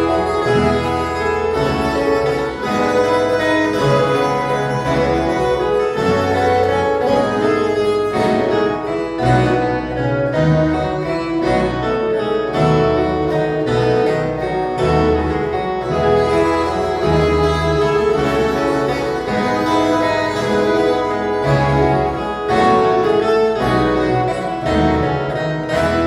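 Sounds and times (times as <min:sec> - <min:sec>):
bass line: 0:00.0 - 0:26.0
plucked steel string ensemble: 0:00.0 - 0:26.0.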